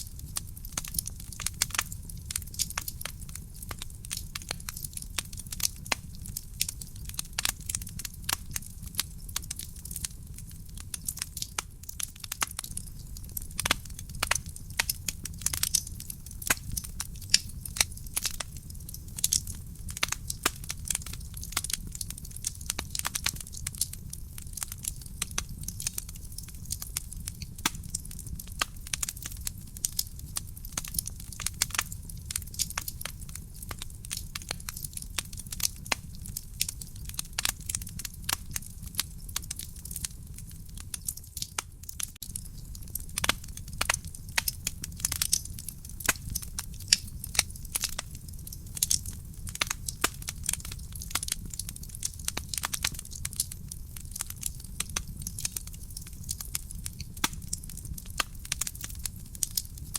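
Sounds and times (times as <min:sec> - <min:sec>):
fire low rumble: 0:00.0 - 0:59.9
wood fire crackling and popping: 0:00.0 - 0:59.9.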